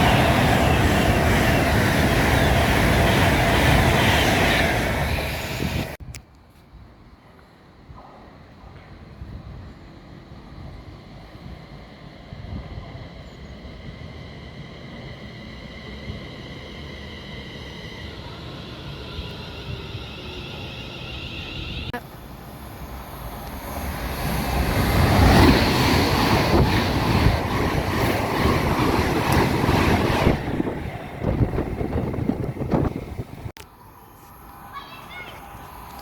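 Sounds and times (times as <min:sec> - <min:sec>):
train rushing rumble: 0:00.0 - 0:06.0, 0:09.1 - 0:33.6.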